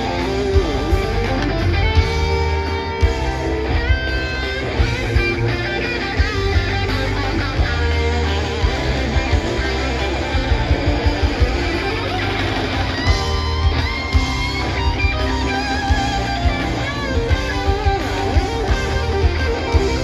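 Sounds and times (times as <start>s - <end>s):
electric guitar sliding notes: 0.0s - 20.0s
live rock band playing: 0.0s - 20.0s.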